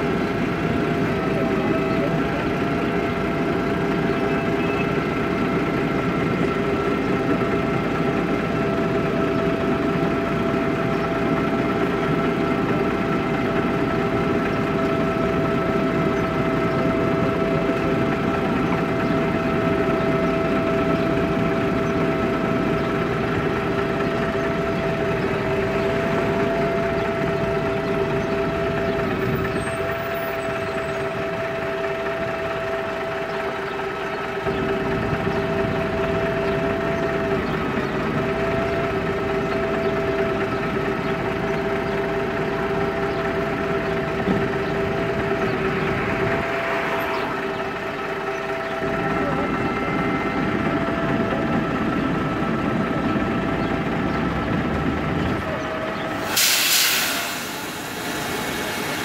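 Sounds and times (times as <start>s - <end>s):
gearbox whine: 0.0s - 56.4s
diesel bus idling: 0.0s - 59.0s.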